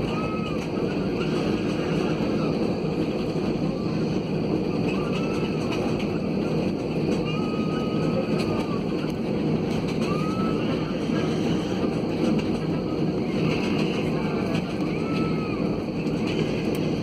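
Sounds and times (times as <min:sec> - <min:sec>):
airliner cabin engine and air noise: 0:00.0 - 0:17.0.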